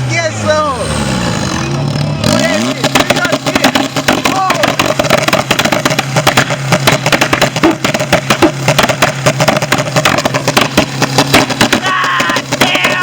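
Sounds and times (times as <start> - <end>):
car engine revving: 0.0 - 13.0
sharp exhaust pops: 1.0 - 13.0.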